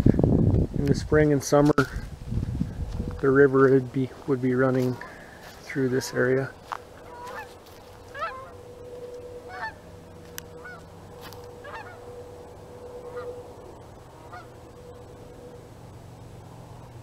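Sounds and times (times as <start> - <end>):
geese honking overhead: 3.1 - 17.0.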